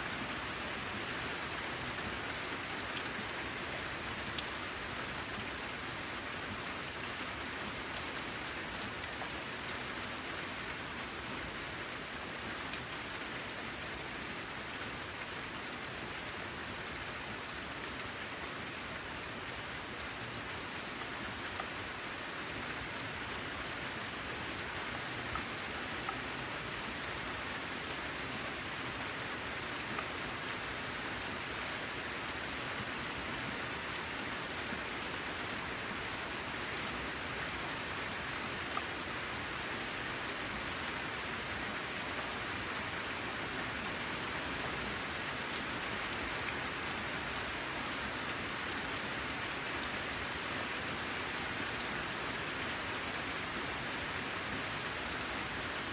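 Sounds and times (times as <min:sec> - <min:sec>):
rain on a metal roof: 0:00.0 - 0:55.9.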